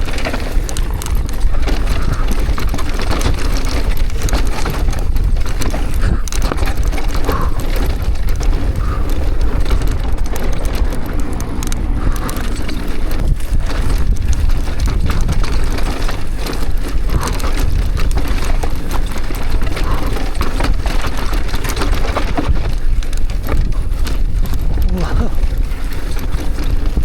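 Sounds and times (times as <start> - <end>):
bike rattling and clicking: 0.0 - 27.0
bike tyres grinding over dirt: 0.0 - 27.0
wind rumble on microphone: 0.0 - 27.0.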